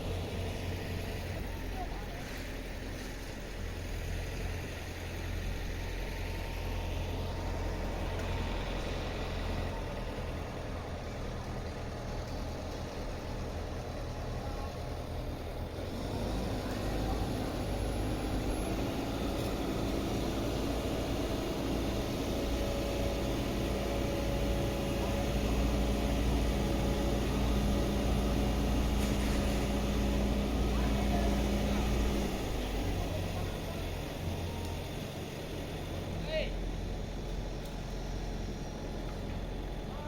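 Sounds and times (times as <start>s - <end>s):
vehicle engines rumbling: 0.0s - 40.0s.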